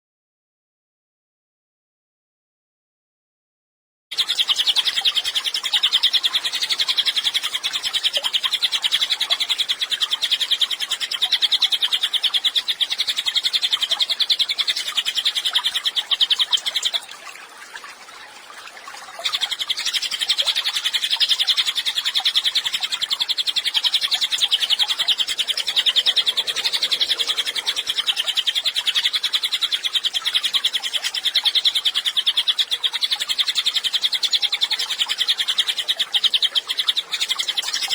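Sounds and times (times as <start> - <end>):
songbird trilling: 4.2 - 17.1, 19.1 - 37.9.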